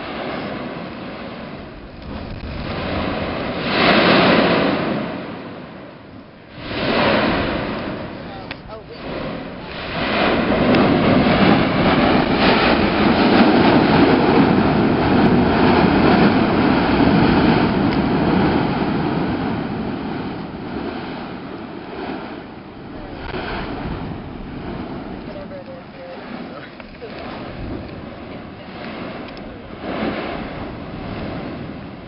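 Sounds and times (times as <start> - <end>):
volcanic vent rushing roar: 0.0 - 32.0.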